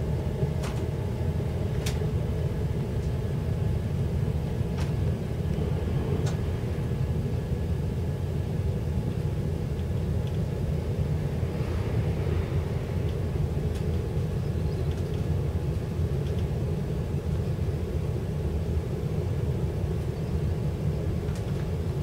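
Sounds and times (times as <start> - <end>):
faint hum: 0.0 - 22.0
train engine low rumble: 0.0 - 22.0.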